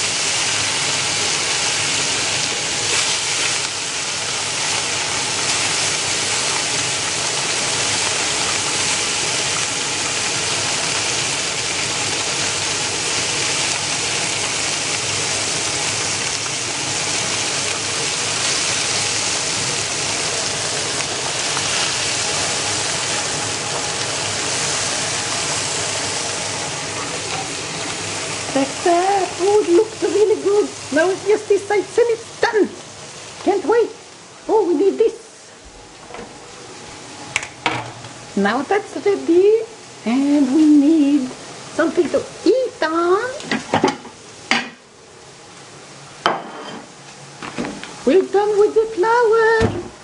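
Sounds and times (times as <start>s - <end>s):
meatballs sizzling in a pan: 0.0s - 36.0s, 36.6s - 50.0s.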